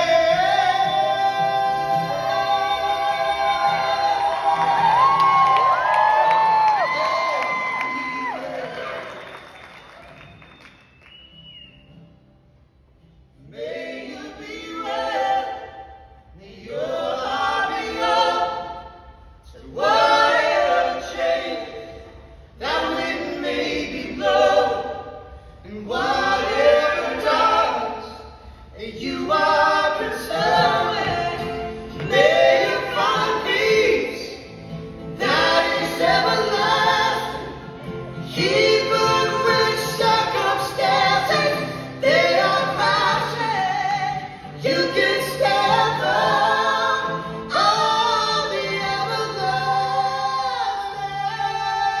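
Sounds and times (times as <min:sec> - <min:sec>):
voices singing in harmony: 0:00.0 - 0:09.4, 0:13.4 - 0:52.0
acoustic guitar: 0:00.0 - 0:52.0.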